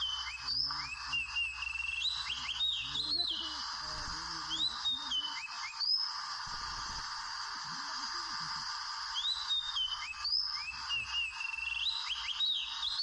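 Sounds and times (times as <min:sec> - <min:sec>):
background hiss: 0:00.0 - 0:13.0
bird singing whistled notes: 0:00.0 - 0:13.0.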